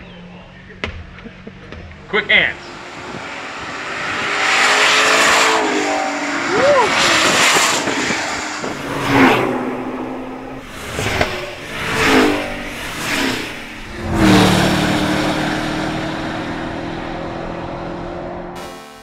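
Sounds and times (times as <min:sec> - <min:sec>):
car engines passing by: 0:00.0 - 0:18.7.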